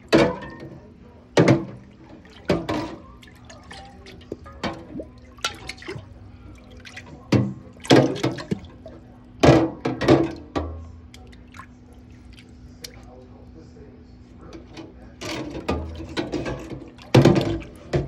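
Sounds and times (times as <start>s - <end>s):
dishes clattering in a sink: 0.0s - 13.0s, 14.4s - 18.0s.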